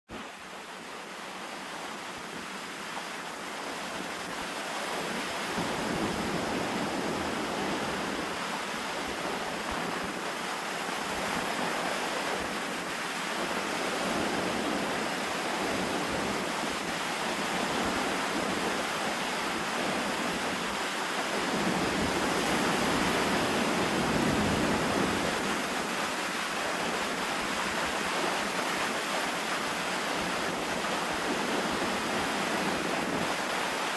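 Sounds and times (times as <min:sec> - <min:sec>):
lake waves rushing onto beach: 0:00.1 - 0:33.9
wind buffeting microphone: 0:03.5 - 0:33.9.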